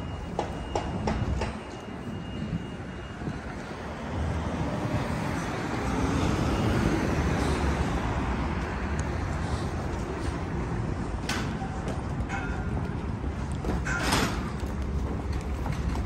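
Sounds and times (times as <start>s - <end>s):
passing traffic: 0.0s - 16.0s.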